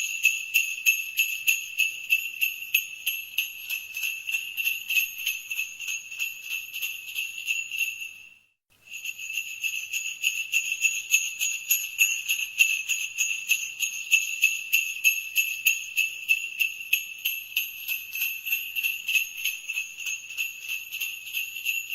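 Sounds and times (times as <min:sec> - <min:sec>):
sleigh bells jingling: 0:00.0 - 0:08.2, 0:08.8 - 0:21.9.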